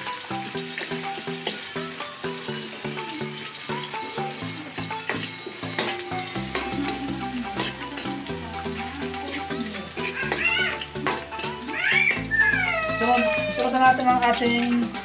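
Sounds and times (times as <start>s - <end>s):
spatula scraping and tapping pan: 0.0s - 13.2s
background music: 0.0s - 15.0s
sizzling in hot oil: 0.0s - 15.0s.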